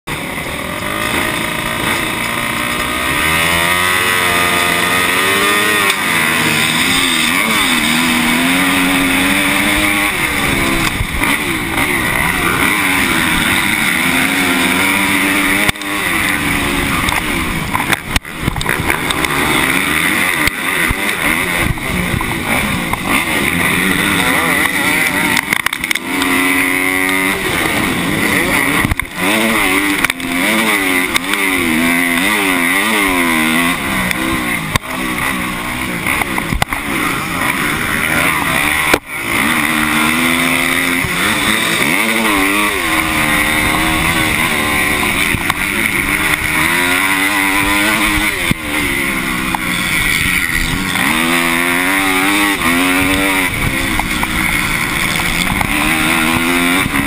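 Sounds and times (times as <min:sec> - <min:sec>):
motorbike engine racing: 0:00.1 - 0:57.0.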